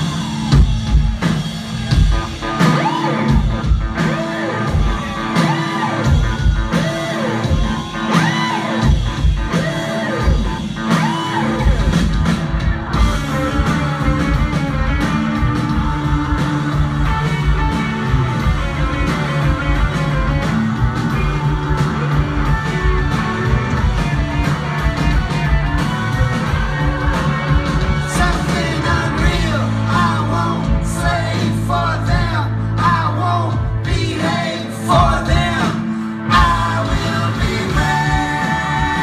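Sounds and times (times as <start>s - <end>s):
electric guitar: 0.0s - 39.0s
rock band playing live: 0.0s - 39.0s.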